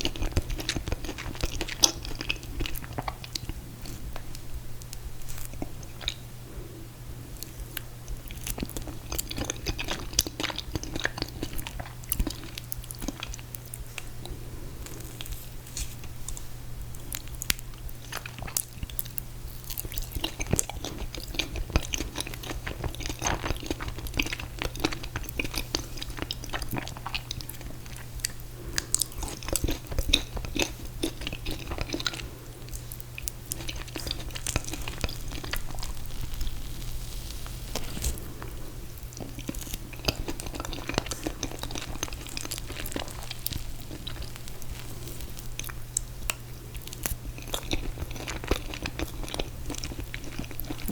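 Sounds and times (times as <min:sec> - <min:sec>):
chewing ice cream cake: 0:00.0 - 0:50.9.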